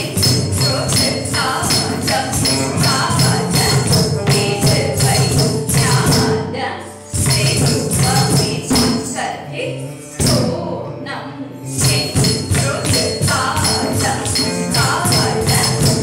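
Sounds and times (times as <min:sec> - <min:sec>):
singing and instruments over beat: 0:00.0 - 0:16.0.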